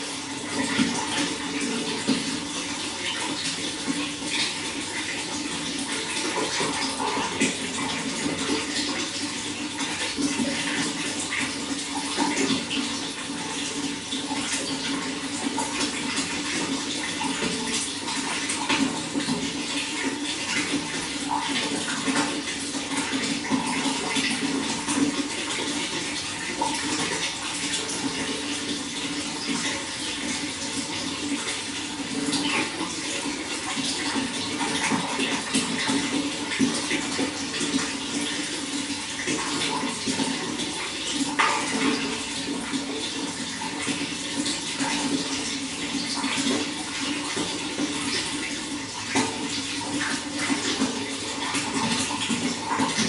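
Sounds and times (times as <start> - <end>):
running water flowing: 0.0 - 53.0.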